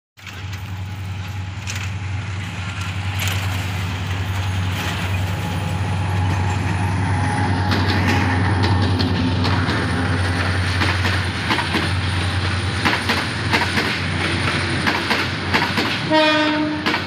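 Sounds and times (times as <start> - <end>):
diesel locomotive engine drone: 0.2 - 17.0.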